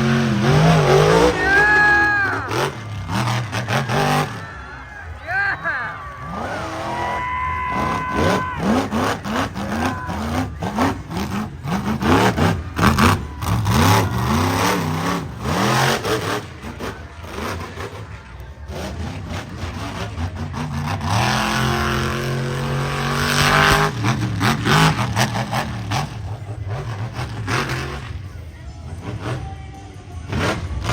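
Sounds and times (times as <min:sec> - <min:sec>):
monster truck engine revving: 0:00.0 - 0:30.9.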